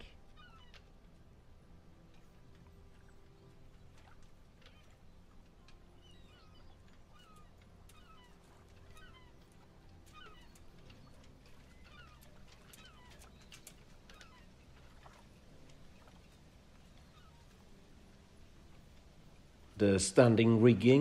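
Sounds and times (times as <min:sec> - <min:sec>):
distant bird calls: 0:00.0 - 0:21.0
low background hum: 0:00.0 - 0:21.0.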